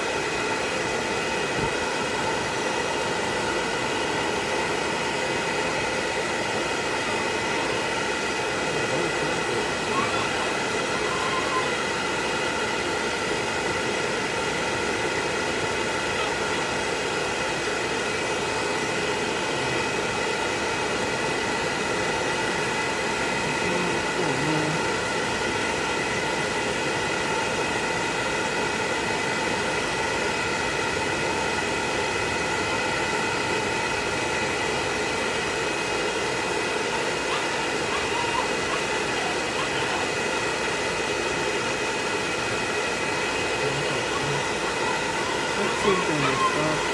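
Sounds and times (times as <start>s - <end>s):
hair dryer running: 0.0s - 46.9s.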